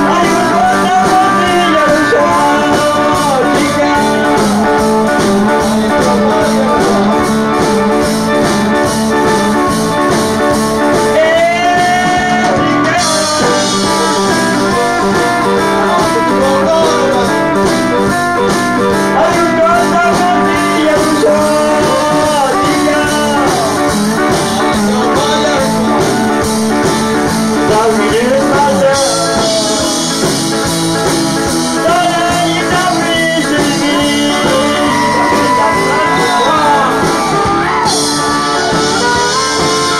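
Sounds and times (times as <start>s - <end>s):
accordion: 0.0s - 39.9s
band playing live: 0.0s - 39.9s
man singing: 0.0s - 39.9s.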